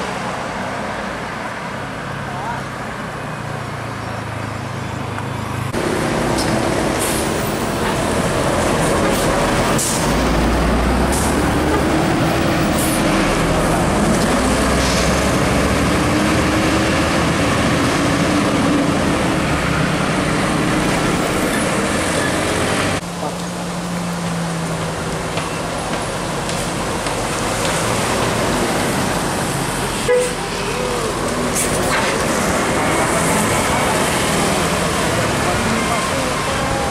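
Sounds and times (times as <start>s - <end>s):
bus diesel engine passing: 0.0s - 36.9s
road noise: 0.0s - 36.9s.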